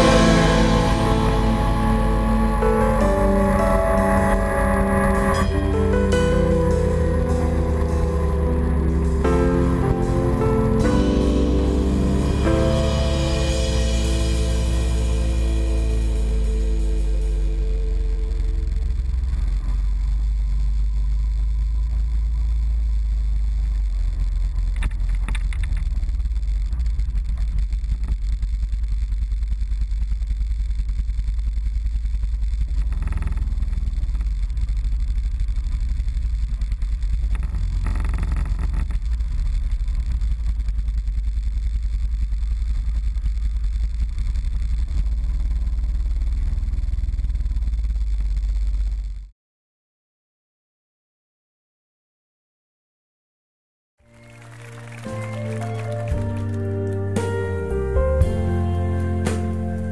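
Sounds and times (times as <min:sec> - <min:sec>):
quad engine rumbling: 0:00.0 - 0:49.3, 0:54.1 - 0:59.9.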